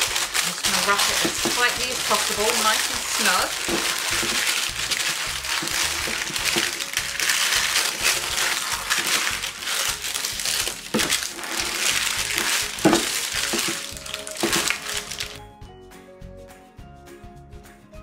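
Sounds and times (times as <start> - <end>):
baking paper crinkling: 0.0 - 15.4.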